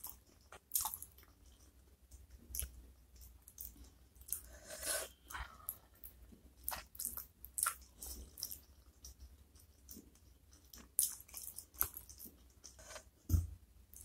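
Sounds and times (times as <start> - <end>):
close chewing with mouth clicks: 0.0 - 12.8.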